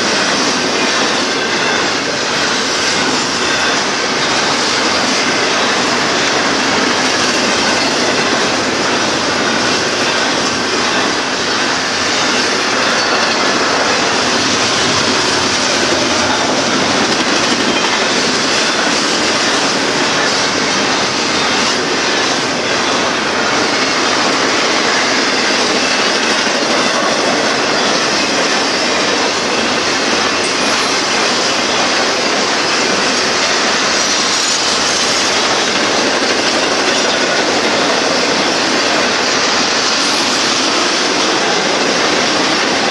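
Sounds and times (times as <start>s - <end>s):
train wheels rolling on rails: 0.0s - 42.9s.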